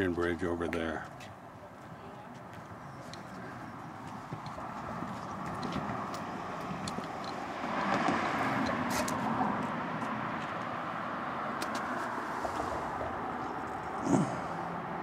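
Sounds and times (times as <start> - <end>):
passing motor vehicle: 1.3 - 15.0.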